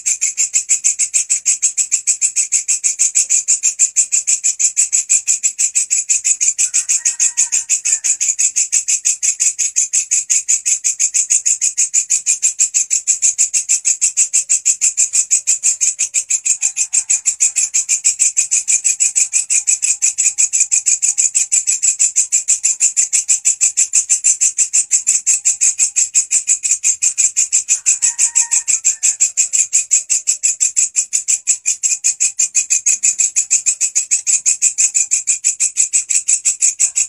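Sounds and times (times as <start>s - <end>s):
katydid chirping: 0.0s - 37.0s.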